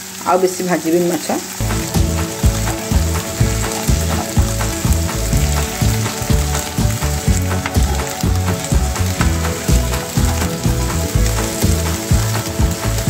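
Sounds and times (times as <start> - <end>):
fish sizzling in oil: 0.0 - 13.0
background music with low beat: 1.6 - 13.0.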